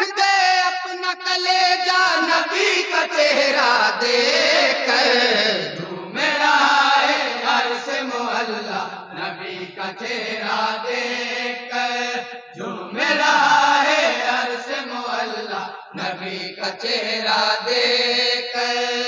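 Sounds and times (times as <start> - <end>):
men chanting in chorus: 0.0 - 19.0.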